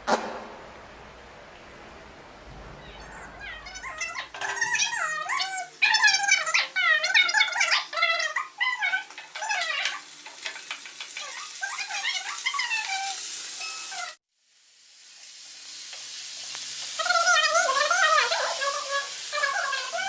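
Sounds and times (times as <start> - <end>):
meat sizzling in oil: 3.6 - 20.0.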